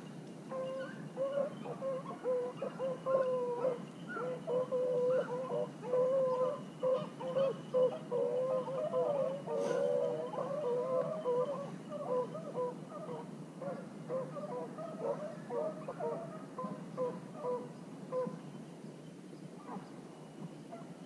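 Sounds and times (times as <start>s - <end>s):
beagles baying: 0.5s - 18.4s.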